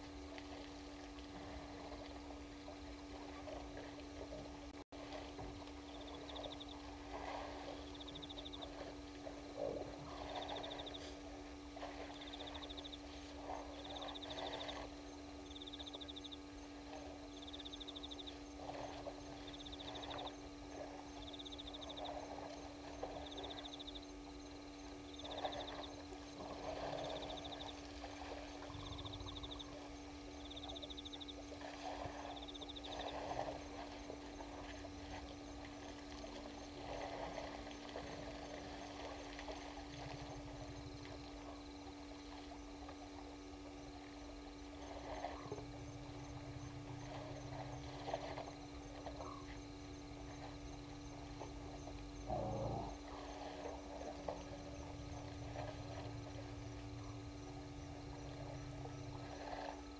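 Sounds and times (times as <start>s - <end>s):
steady low hum: 0.0s - 59.9s
water splashing and sloshing: 0.0s - 59.9s.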